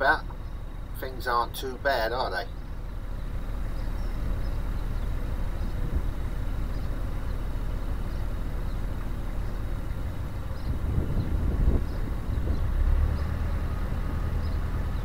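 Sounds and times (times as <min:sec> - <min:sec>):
wind buffeting microphone: 0:02.6 - 0:15.0.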